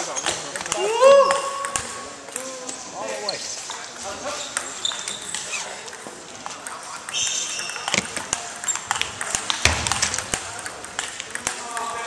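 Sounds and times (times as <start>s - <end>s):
ping pong ball hitting paddles: 0.2s - 2.5s, 4.5s - 12.0s.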